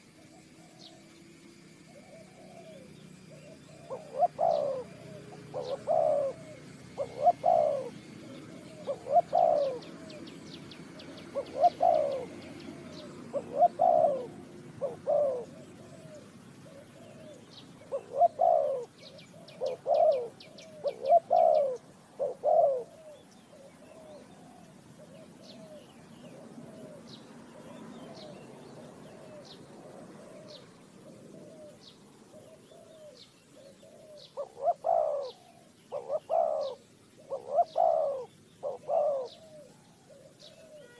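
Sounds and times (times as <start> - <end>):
dove cooing: 0.0 - 1.1, 1.8 - 40.9
small bird chirping: 0.0 - 40.9.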